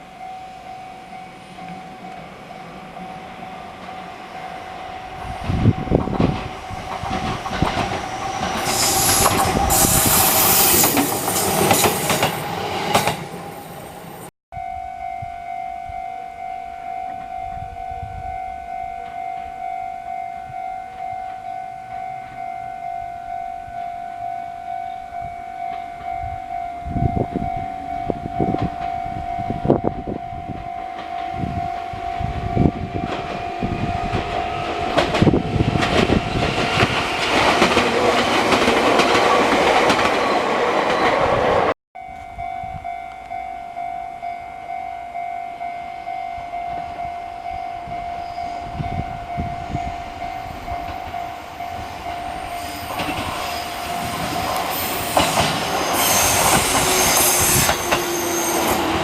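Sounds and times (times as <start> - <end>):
level-crossing warning bell: 0.0 - 13.9, 14.6 - 41.2, 42.0 - 59.0
rush of passing train cars: 0.0 - 14.3, 16.4 - 59.0.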